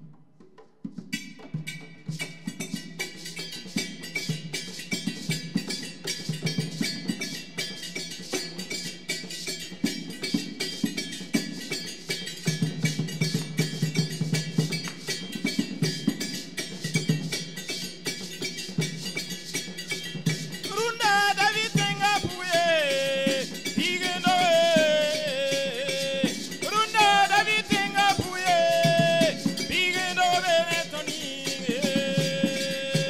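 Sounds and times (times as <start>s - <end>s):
small percussion clicking: 1.1s - 33.0s.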